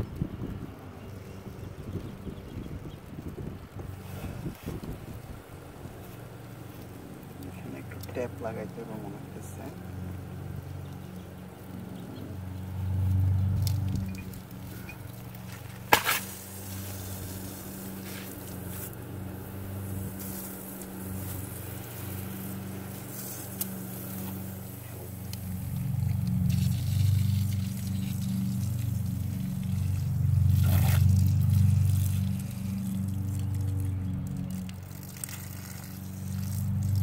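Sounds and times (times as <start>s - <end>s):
water rushing through hose: 0.0s - 37.0s.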